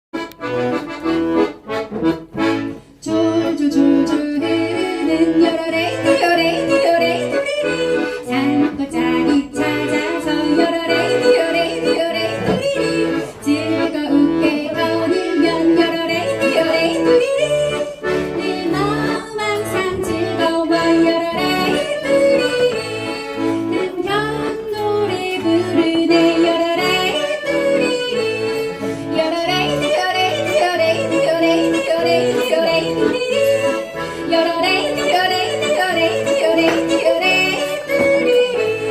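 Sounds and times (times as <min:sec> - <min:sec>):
accordion: 0:00.1 - 0:38.9.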